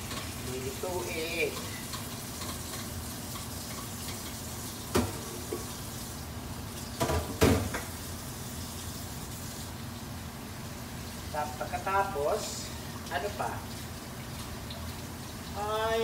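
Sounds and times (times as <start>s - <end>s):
sizzling in a pot: 0.0s - 16.0s.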